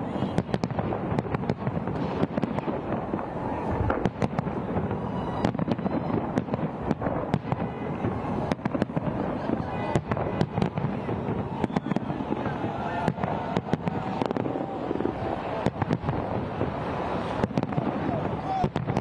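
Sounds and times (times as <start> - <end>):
crowd hubbub: 0.0 - 19.0
fireworks bangs and crackles: 0.0 - 19.0.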